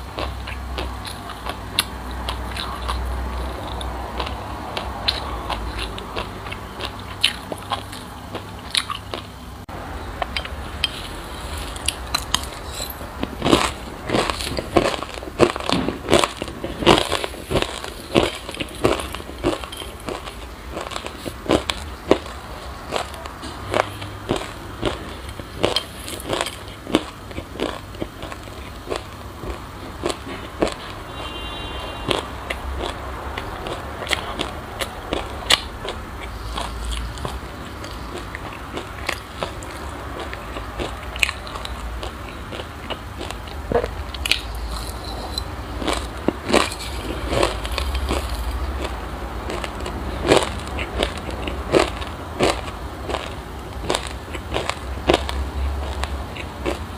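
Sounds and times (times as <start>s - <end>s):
chewing crunchy seeds: 0.0s - 56.9s.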